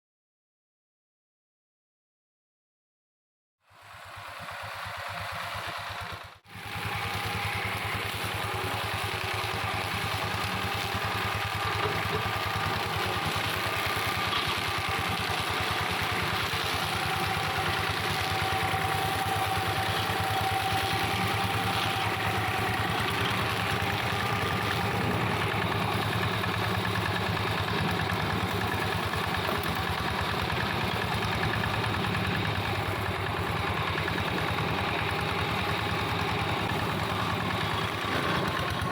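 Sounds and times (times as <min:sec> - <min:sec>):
hand tractor engine running: 0:04.0 - 0:38.9.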